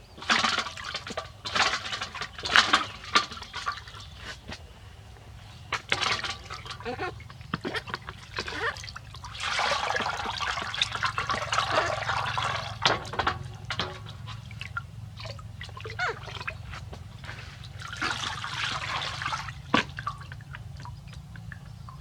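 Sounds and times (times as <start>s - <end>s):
water pouring and splashing: 0.0s - 22.0s
water dripping: 0.2s - 22.0s.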